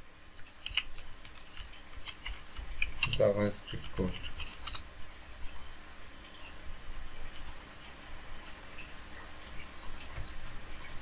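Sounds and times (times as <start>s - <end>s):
room noise hiss and rumble: 0.0s - 11.0s.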